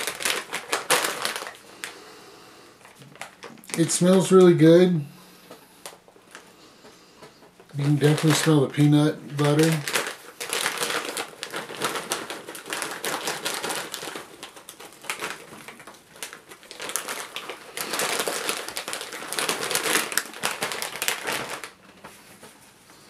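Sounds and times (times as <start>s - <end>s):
plastic snack bag crinkling: 0.0s - 22.7s.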